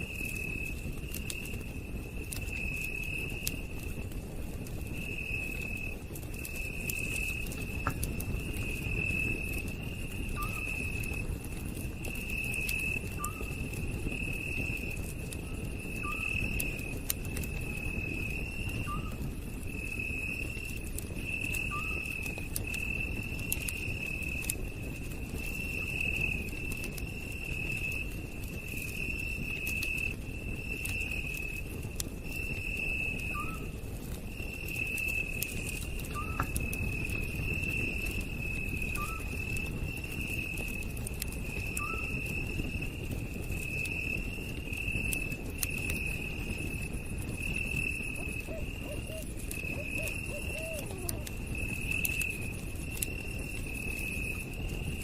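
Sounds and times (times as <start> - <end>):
night insects chirping: 0.0 - 4.0, 4.8 - 55.0
campfire crackling: 0.0 - 55.0.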